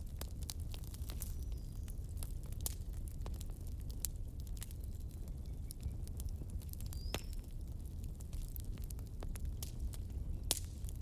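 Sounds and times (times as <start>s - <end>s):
burning wood crackling and popping: 0.0s - 11.0s
low rumble of flames: 0.0s - 11.0s.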